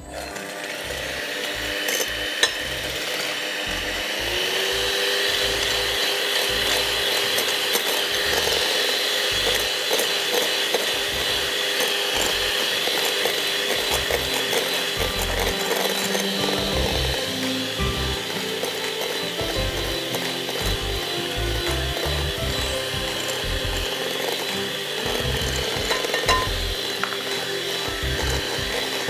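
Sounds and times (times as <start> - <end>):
electric mixer motor whine: 0.0 - 29.0
mixer beaters rattling: 0.0 - 29.0.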